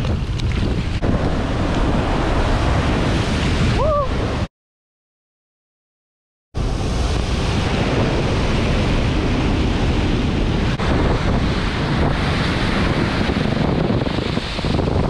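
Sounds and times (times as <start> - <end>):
surf breaking in shallow water: 0.0 - 4.5, 6.6 - 15.0
wind buffeting microphone: 0.0 - 4.5, 6.6 - 15.0.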